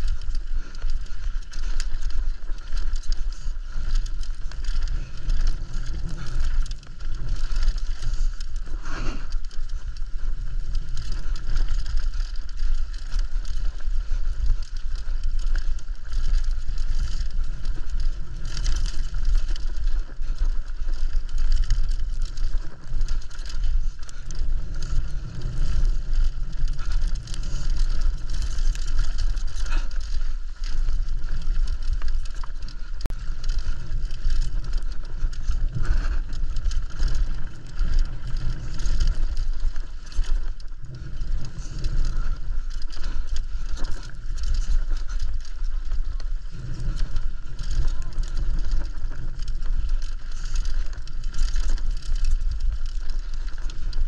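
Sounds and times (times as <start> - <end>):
bike rattling and knocking: 0.0 - 54.0
bike tyres rolling over dirt and rocks: 0.0 - 54.0
wind rumble on microphone: 0.0 - 54.0.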